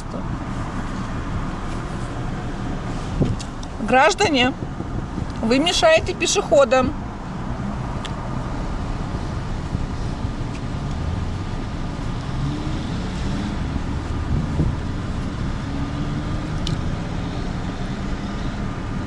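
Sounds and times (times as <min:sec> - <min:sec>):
car engines running: 0:00.0 - 0:19.0
low traffic rumble: 0:00.0 - 0:19.0.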